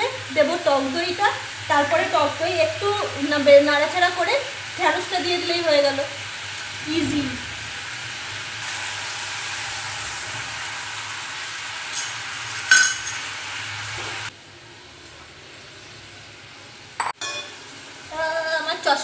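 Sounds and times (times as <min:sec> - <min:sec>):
spices sizzling in oil: 0:00.0 - 0:19.0.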